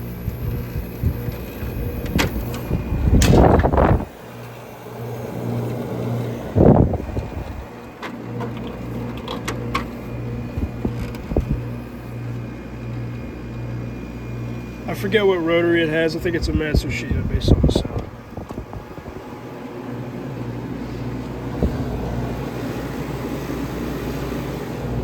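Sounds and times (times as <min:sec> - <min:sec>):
air conditioner compressor humming: 0:00.0 - 0:25.0.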